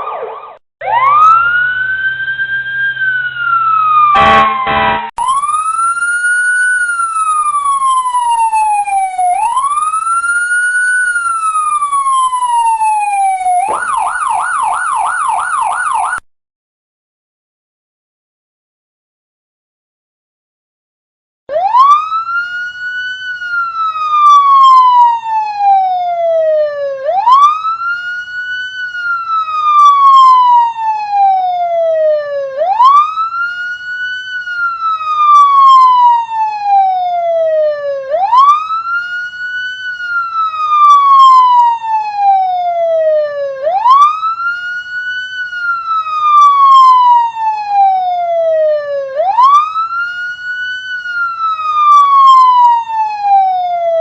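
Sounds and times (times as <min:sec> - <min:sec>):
police siren wailing: 0:00.0 - 0:16.2, 0:21.5 - 0:54.0.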